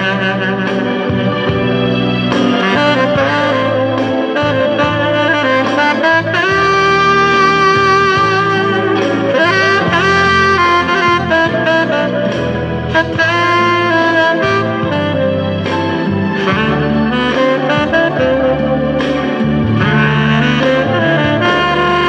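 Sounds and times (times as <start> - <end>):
low accompaniment: 0.0 - 22.0
saxophone ballad melody: 0.0 - 22.0.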